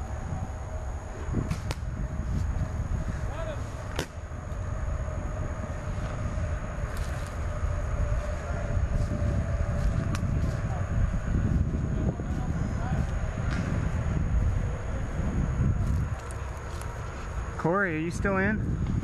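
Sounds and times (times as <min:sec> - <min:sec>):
low rumble: 0:00.0 - 0:17.6.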